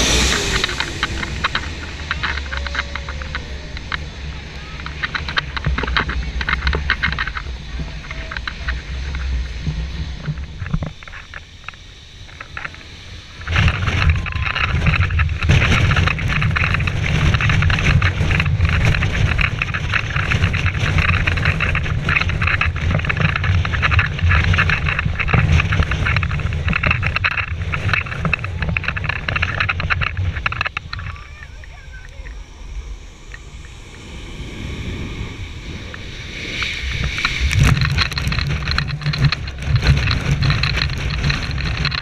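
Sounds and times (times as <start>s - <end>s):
jet blast buffeting microphone: 0.0s - 42.0s
jet engines at takeoff power: 0.0s - 42.0s.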